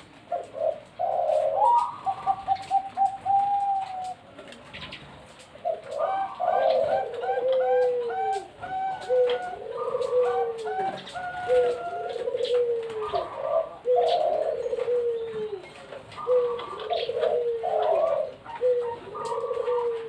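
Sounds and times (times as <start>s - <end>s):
zebra doves cooing: 0.0s - 20.0s.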